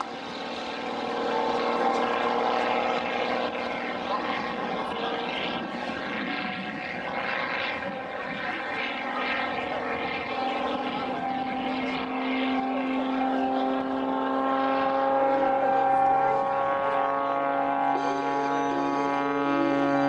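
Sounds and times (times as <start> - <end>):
propeller plane droning: 0.0 - 20.0.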